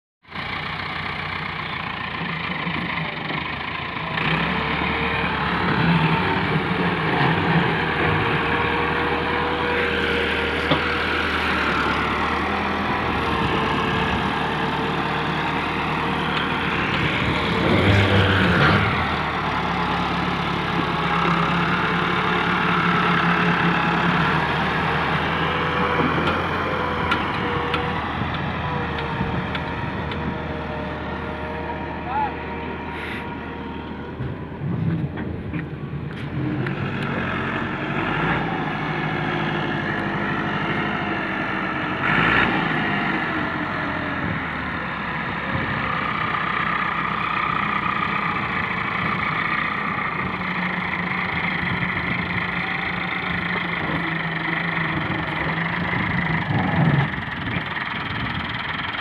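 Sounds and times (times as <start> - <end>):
tractor diesel engine under load: 0.2 - 59.0.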